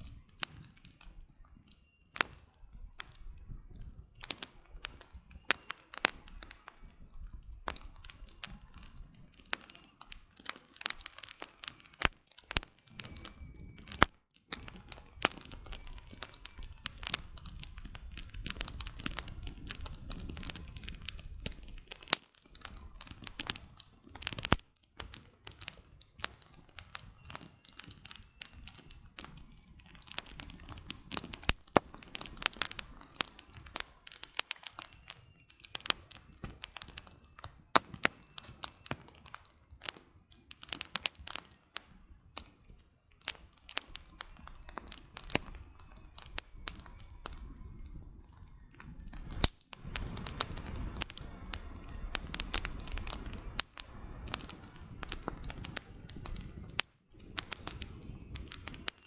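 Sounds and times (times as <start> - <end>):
campfire crackling and popping: 0.0 - 59.0
low rush of flame: 2.3 - 59.0.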